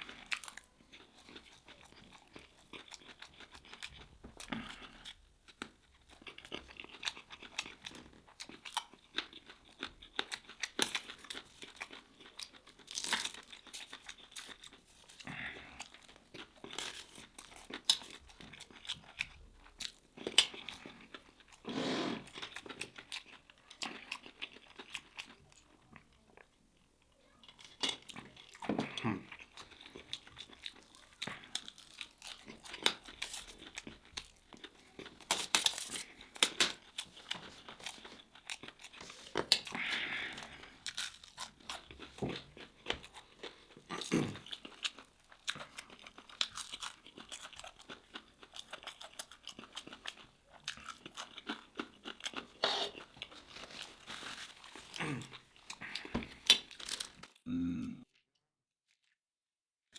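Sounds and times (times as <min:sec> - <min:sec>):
crunchy chewing of fried food: 0:00.0 - 0:58.2.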